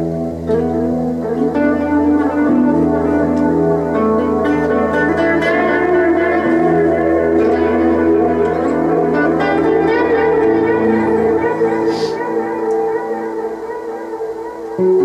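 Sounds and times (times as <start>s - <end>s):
electric guitar picked notes: 0.0s - 15.0s
held low guitar note: 0.0s - 15.0s.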